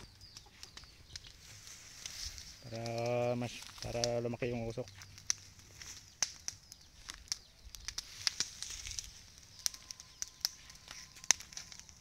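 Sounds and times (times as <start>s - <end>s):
fire crackling and popping: 0.0s - 12.0s
soft fire hiss: 0.3s - 12.0s.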